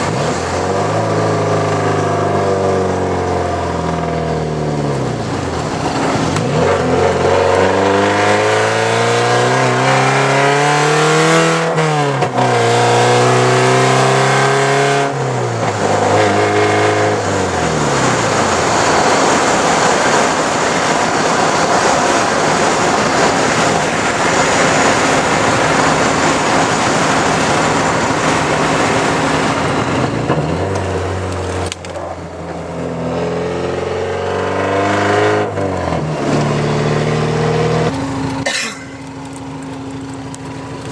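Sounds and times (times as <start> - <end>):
car engine pulling through gears: 0.0 - 40.9
rushing noise: 0.0 - 40.9.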